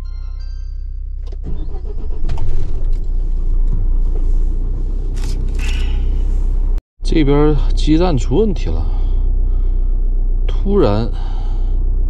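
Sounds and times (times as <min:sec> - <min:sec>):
motorhome engine: 0:00.4 - 0:12.0
road rumble: 0:00.8 - 0:12.0.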